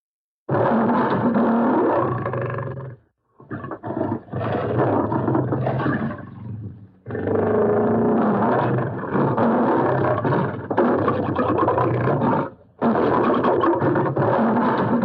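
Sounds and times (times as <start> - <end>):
lion roaring: 0.5 - 15.0.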